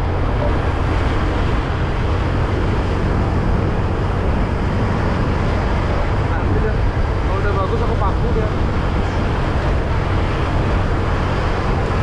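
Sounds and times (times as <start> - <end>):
motorbike road noise: 0.0 - 12.0
wind rush: 0.0 - 12.0.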